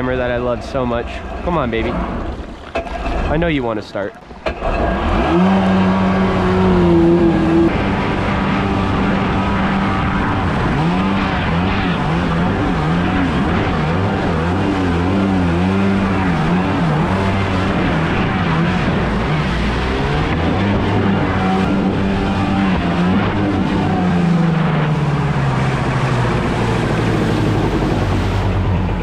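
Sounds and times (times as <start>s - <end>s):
jet ski engine revving and idling: 4.2s - 29.0s.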